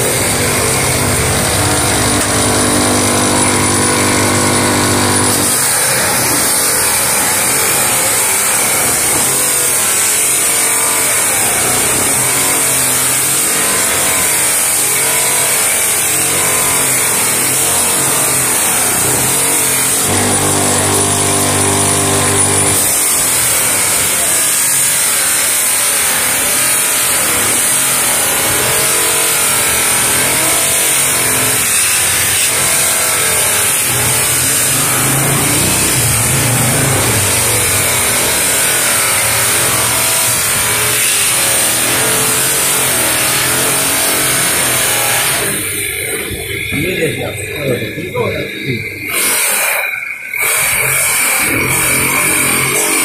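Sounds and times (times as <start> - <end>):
grinder motor hum: 0.0 - 53.0.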